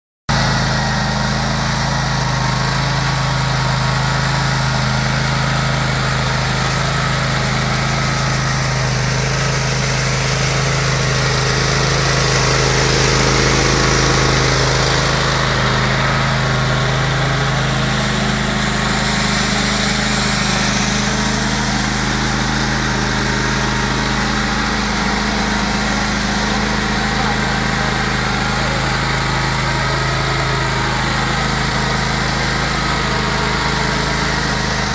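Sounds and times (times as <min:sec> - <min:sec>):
ride-on mower engine running: 0:00.3 - 0:34.9
rotary brush sweeping snow: 0:05.3 - 0:34.9.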